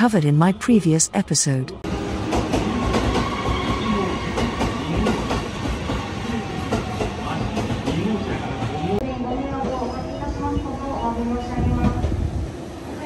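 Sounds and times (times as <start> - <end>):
train whine and rumble: 0.0 - 13.0.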